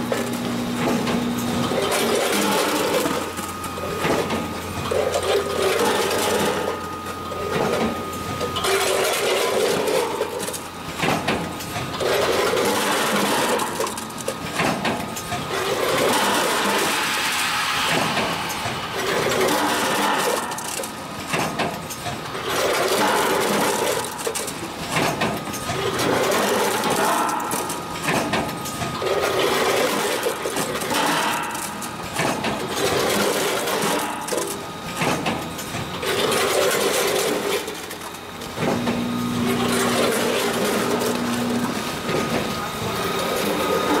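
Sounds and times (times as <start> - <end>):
packaging machine running: 0.0 - 44.0.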